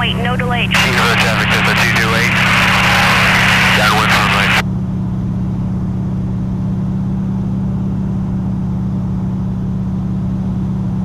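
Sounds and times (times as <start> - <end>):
aircraft radial engine drone: 0.0 - 11.0.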